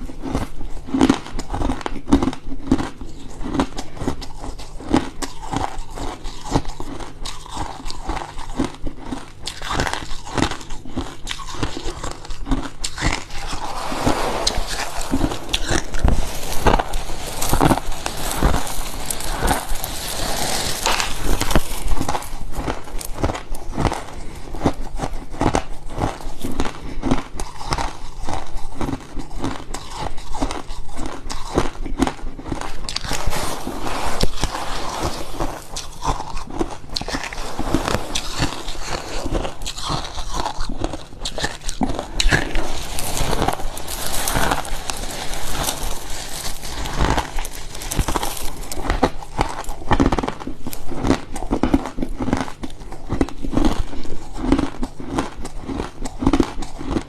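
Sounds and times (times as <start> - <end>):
frost being chewed with crunches: 0.0 - 57.0.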